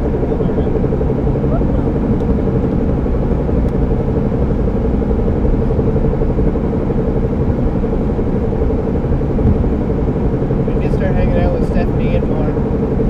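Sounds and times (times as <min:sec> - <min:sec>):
car wheel hum: 0:00.0 - 0:13.0
low road rumble: 0:00.0 - 0:13.0.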